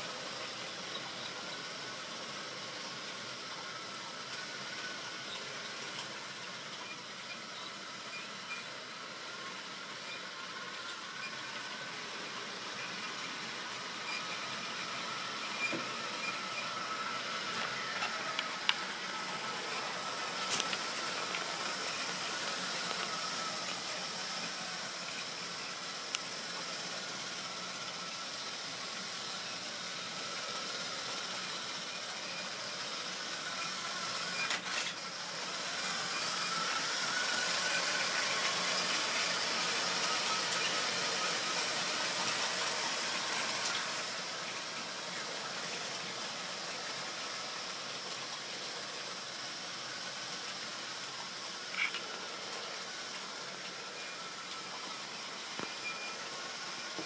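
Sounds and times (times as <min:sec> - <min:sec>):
model train whirring on track: 0:00.0 - 0:57.0.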